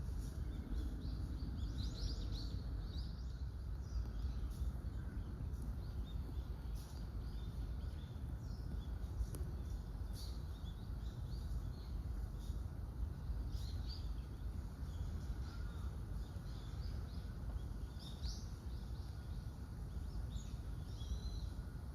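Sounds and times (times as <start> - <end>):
low background rumble: 0.0 - 21.9.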